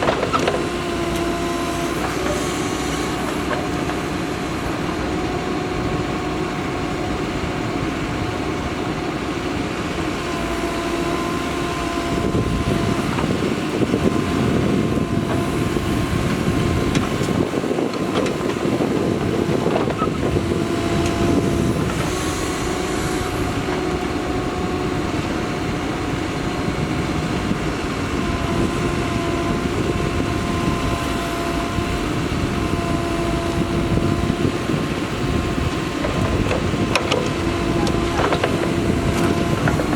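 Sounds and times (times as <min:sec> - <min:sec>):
backhoe diesel engine whining: 0:00.0 - 0:39.9.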